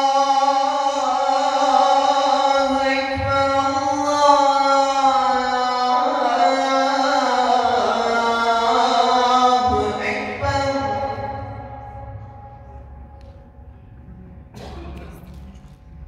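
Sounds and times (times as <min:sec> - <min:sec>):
man chanting call to prayer: 0:00.0 - 0:12.9.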